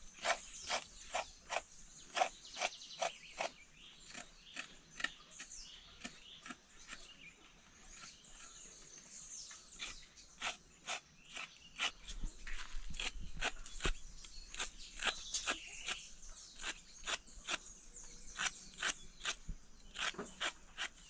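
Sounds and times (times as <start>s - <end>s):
knife scraping root skin: 0.0s - 7.2s, 7.9s - 8.6s, 9.7s - 17.7s, 18.3s - 21.0s.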